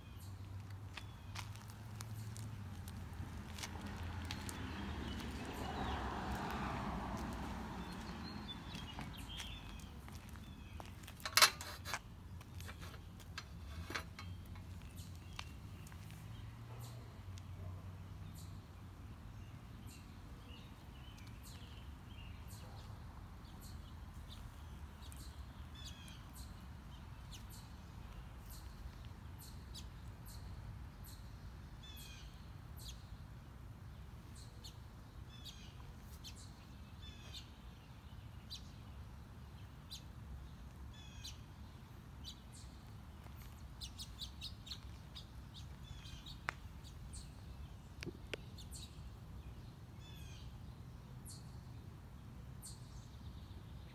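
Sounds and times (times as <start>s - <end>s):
small birds chirping: 0.0s - 33.2s, 33.9s - 53.9s.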